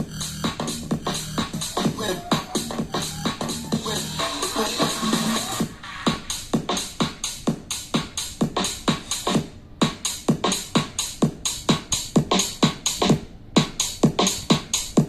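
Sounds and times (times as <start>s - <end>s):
electronic dance music: 0.0s - 15.0s
kick drum beat: 0.0s - 15.0s.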